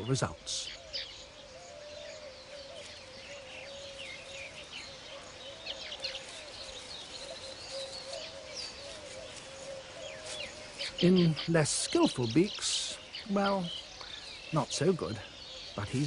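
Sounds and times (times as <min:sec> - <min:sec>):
birds chirping and chattering: 0:00.0 - 0:16.0.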